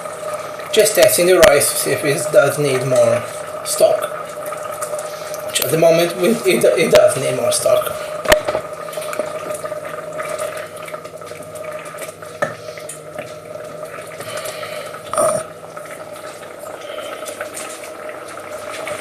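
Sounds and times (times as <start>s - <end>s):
liquid pouring and sloshing: 0.0s - 19.0s
steady background hum: 0.0s - 19.0s.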